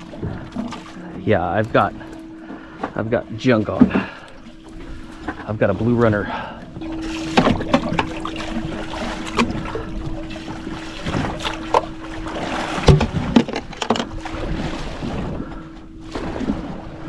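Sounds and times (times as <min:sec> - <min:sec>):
water washing: 0:00.0 - 0:16.8
steady boat engine hum: 0:00.0 - 0:17.0
wind: 0:00.0 - 0:17.0.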